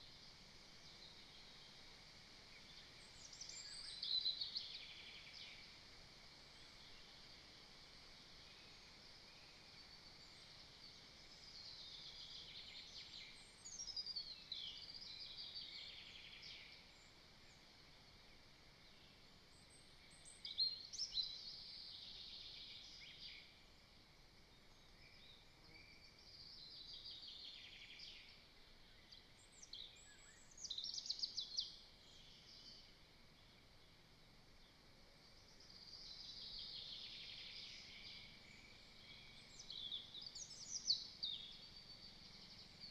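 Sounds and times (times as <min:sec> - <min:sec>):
faint steady hiss: 0:00.0 - 0:42.9
songbird trills: 0:02.5 - 0:05.8, 0:08.4 - 0:23.8, 0:24.6 - 0:42.9.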